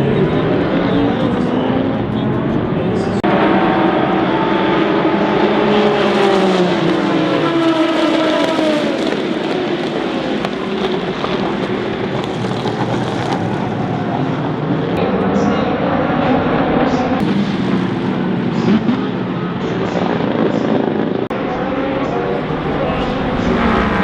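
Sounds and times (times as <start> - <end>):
race cars passing: 0.0 - 24.0.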